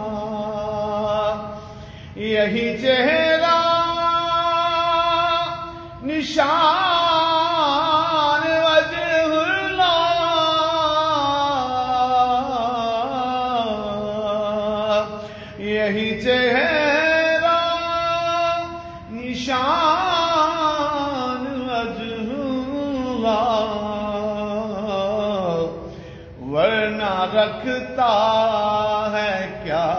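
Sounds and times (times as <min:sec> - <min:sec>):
man singing unaccompanied: 0:00.0 - 0:29.9.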